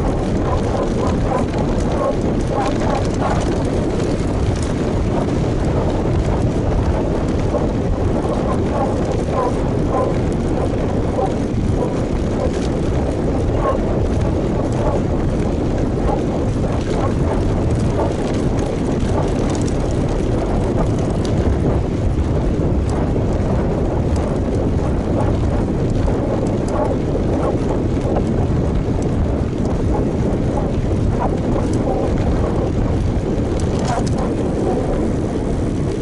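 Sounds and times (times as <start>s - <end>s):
bike tyre and road noise: 0.0s - 36.0s
wind on microphone: 0.0s - 36.0s.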